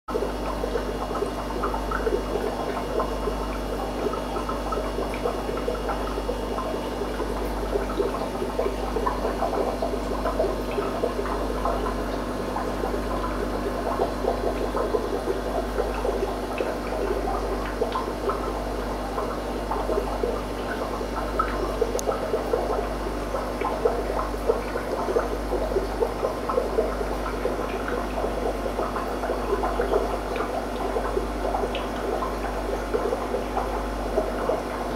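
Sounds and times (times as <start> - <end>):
aquarium water bubbling: 0.1 - 34.9
low equipment hum: 0.1 - 34.9.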